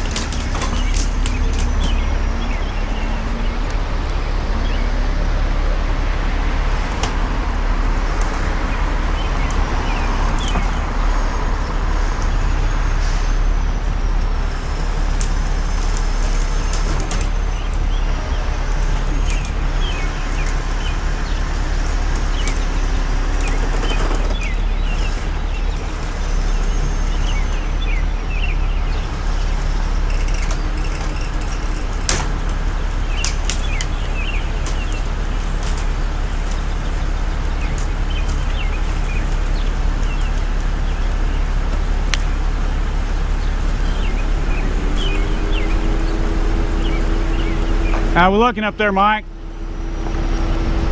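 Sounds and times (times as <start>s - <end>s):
birds chirping: 0.0s - 50.9s
diesel engine running: 0.0s - 50.9s.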